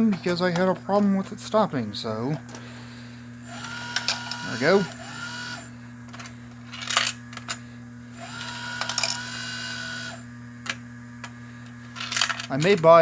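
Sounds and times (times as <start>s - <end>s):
electrical hum: 0.0s - 13.0s
steady whine: 0.0s - 13.0s.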